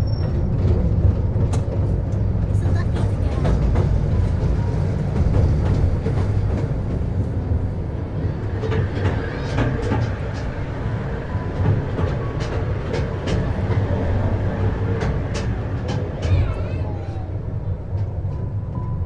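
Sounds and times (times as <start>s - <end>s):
miniature train rumble: 0.0s - 19.0s
wheels clicking on rails: 0.0s - 19.0s.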